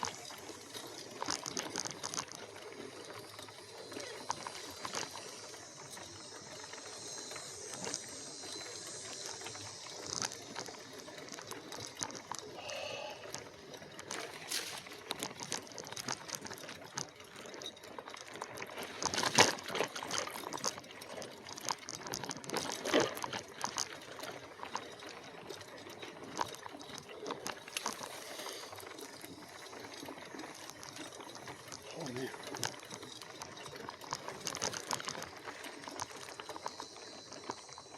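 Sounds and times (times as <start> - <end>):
bike rattling and knocking: 0.0 - 12.6, 13.2 - 37.9
bike tyre noise on trail: 0.0 - 37.9.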